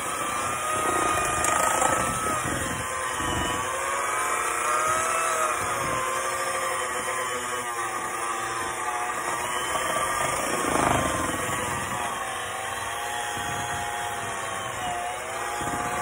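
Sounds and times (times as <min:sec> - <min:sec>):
beaters churning batter in metal bowl: 0:00.0 - 0:16.0
electric hand mixer whining: 0:00.0 - 0:16.0.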